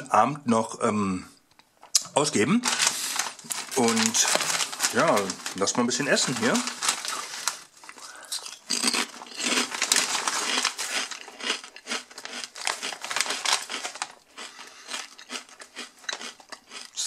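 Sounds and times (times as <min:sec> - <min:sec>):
chip bag crinkling: 0:02.6 - 0:17.0.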